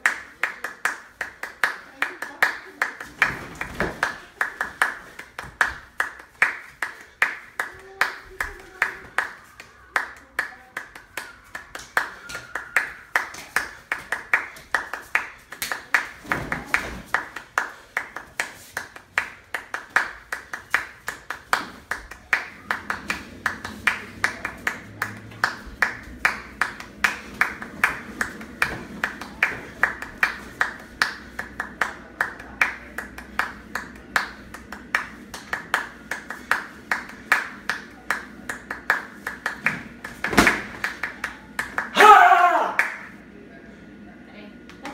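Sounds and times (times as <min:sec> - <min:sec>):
rhythmic hand clapping: 0:00.0 - 0:43.2.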